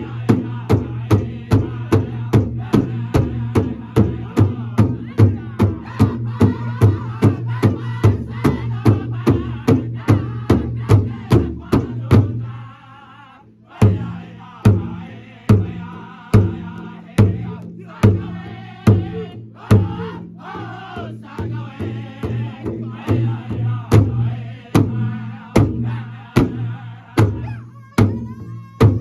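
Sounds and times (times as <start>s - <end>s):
large drum beating: 0.0s - 12.6s, 13.8s - 29.0s
group singing together: 0.0s - 27.6s.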